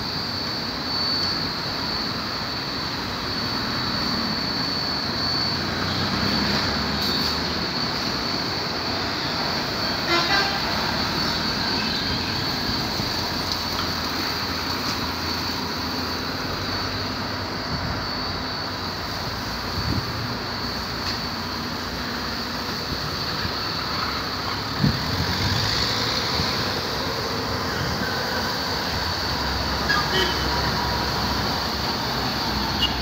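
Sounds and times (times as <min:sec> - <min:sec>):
constant high whine: 0:00.0 - 0:33.0.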